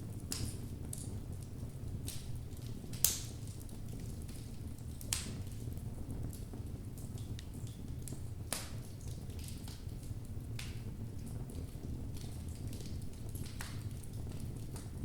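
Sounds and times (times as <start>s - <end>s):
fire crackles and pops: 0.0s - 15.0s
fire rumbling in fireplace: 0.0s - 15.0s.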